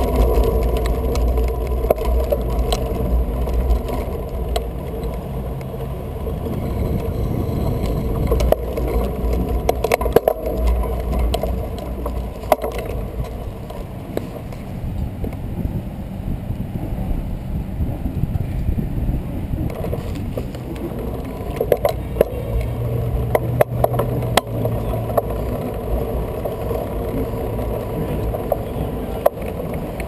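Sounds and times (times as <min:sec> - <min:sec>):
bike knocks and rattles: 0:00.0 - 0:15.8, 0:19.5 - 0:30.0
bike riding rumble on pavement: 0:00.0 - 0:30.0.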